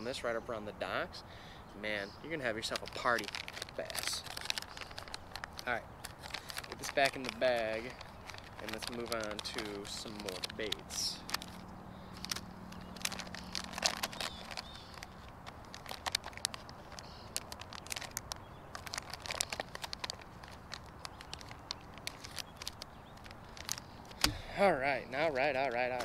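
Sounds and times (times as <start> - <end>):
plastic packaging crinkling: 2.4 - 24.4, 25.2 - 26.0.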